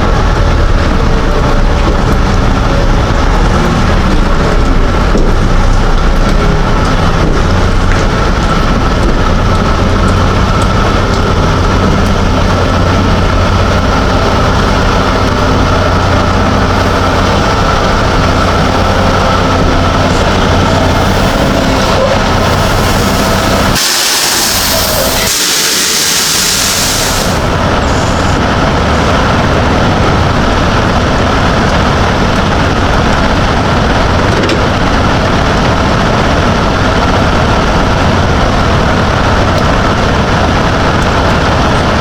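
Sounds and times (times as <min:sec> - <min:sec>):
rain: 0:00.0 - 0:42.0
truck diesel engine running: 0:00.0 - 0:42.0.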